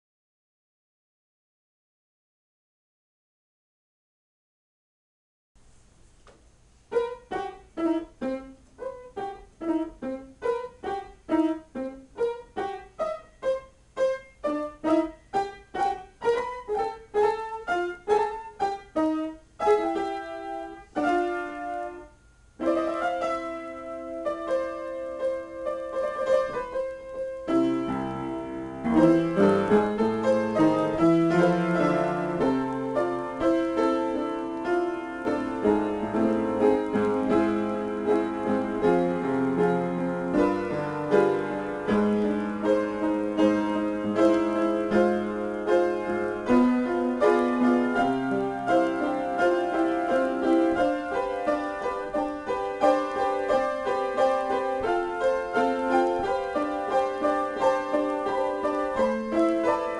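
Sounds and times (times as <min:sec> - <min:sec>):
solo piano improvisation: 0:06.8 - 0:59.9.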